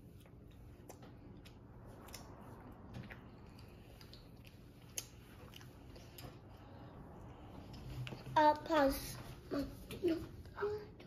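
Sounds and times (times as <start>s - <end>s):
child chewing: 0.0s - 10.2s.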